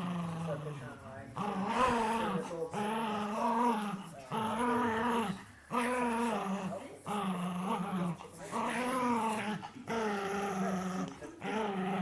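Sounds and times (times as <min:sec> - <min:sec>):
small dog growling: 0:00.0 - 0:12.0.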